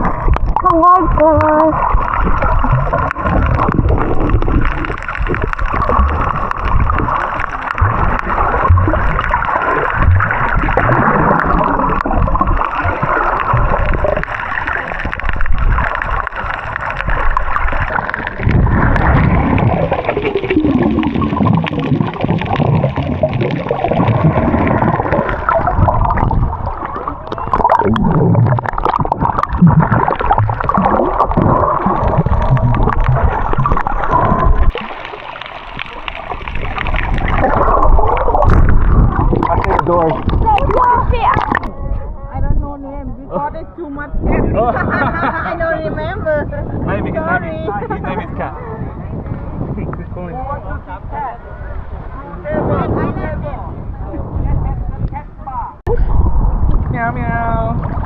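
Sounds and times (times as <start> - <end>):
muffled underwater gurgling: 0.0 - 58.0.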